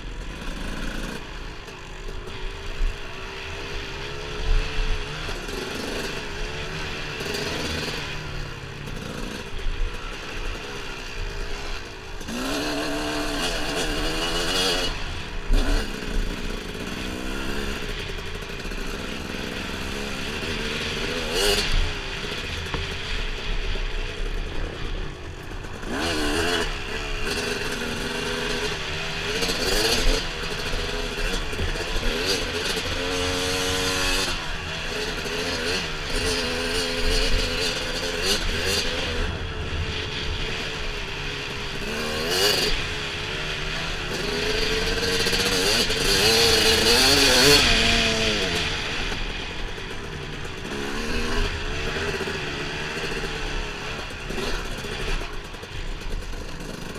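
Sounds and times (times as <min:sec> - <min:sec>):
dirt bike engine revving: 0:00.1 - 0:56.9.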